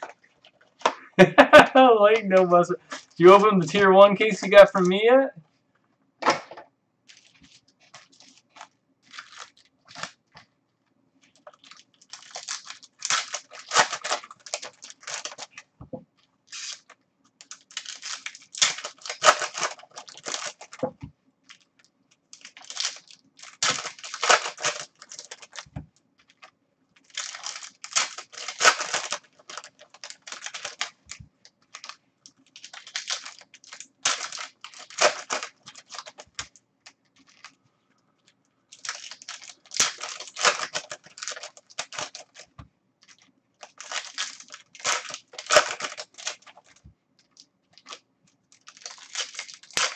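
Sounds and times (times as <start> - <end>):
wrappers crinkling and tearing: 0.0 - 5.1, 7.1 - 10.5, 11.2 - 37.6, 38.7 - 49.9
faint steady hum: 0.0 - 49.9.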